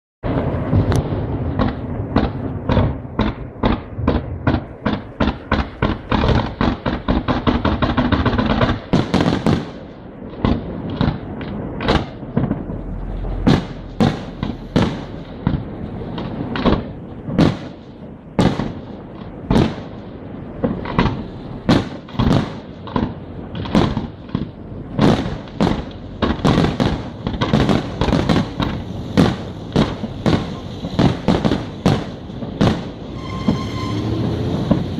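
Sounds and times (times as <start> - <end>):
fireworks bangs: 0.2 - 34.9
sharp echoing firework reports: 0.2 - 34.9.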